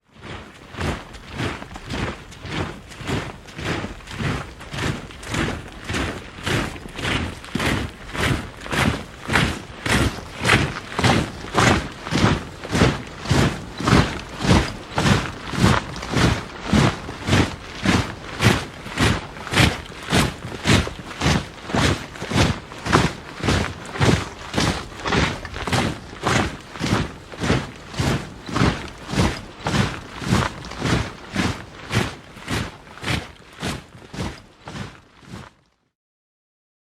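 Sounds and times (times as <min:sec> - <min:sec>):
soldiers marching in step: 0:00.0 - 0:35.9.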